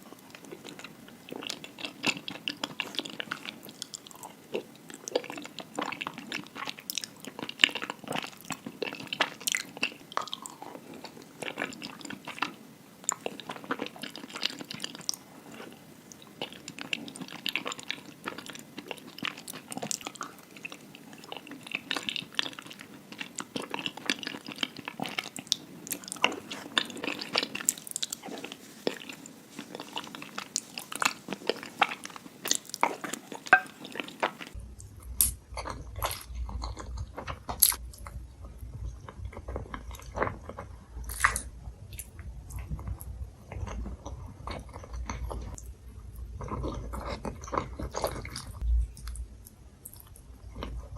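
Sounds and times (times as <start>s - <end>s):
close chewing with mouth clicks: 0.0s - 50.9s.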